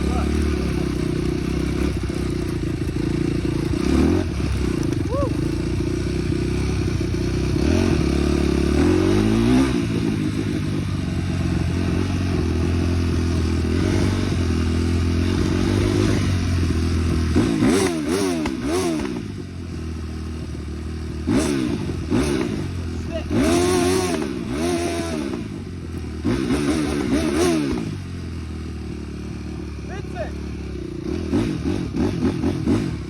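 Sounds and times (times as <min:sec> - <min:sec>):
small off-road engine revving: 0:00.0 - 0:33.0.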